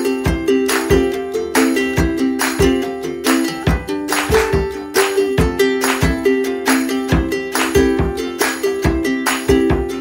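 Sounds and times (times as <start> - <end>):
plucked ukulele-like strings: 0.0 - 10.0
steady beat: 0.0 - 10.0.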